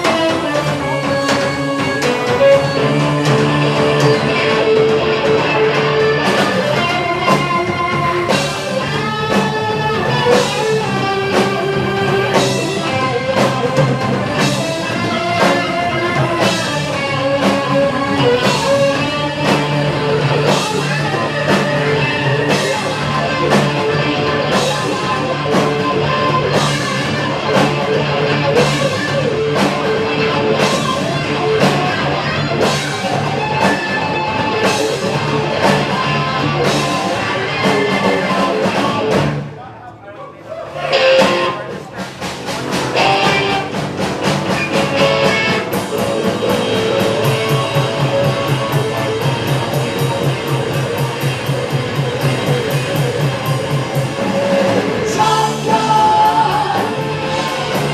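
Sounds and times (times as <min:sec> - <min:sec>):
drum kit beat: 0:00.0 - 0:39.6, 0:40.7 - 0:57.9
electric guitar: 0:00.0 - 0:39.7, 0:40.6 - 0:57.9
bass guitar: 0:00.0 - 0:39.8, 0:40.4 - 0:57.9.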